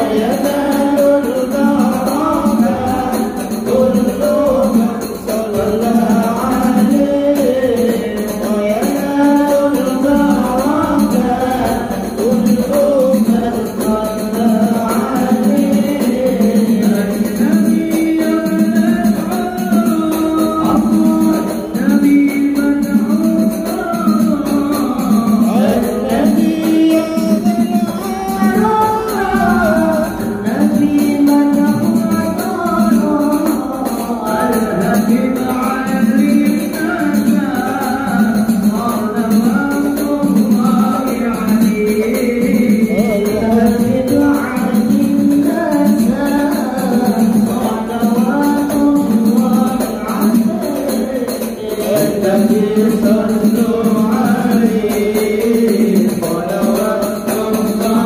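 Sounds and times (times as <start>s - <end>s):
jingling hand percussion: 0.0s - 58.0s
person singing devotional song: 0.0s - 58.0s.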